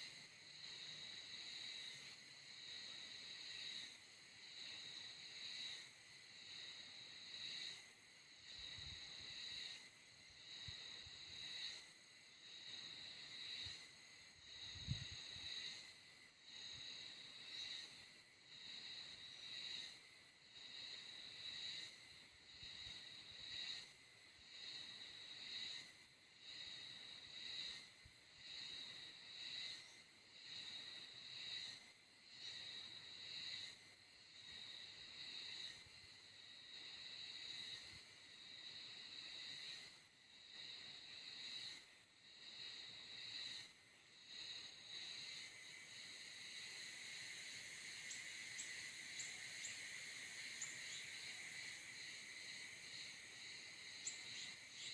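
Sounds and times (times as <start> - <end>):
insects trilling in chorus: 0.0 - 54.9.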